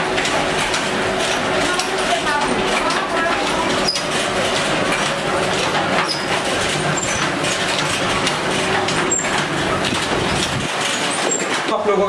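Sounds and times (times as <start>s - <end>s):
machine low hum: 0.0s - 12.0s.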